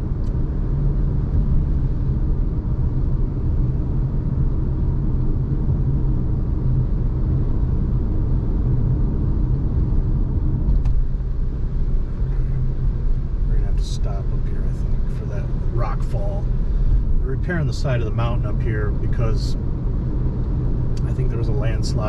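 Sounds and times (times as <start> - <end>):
car interior road noise: 0.0 - 22.0.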